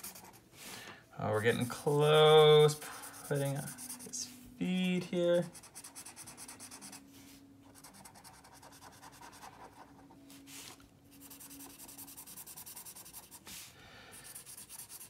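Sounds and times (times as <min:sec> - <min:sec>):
marker rubbing on paper: 0:00.0 - 0:00.4, 0:01.5 - 0:04.4, 0:05.4 - 0:07.1, 0:07.7 - 0:15.0.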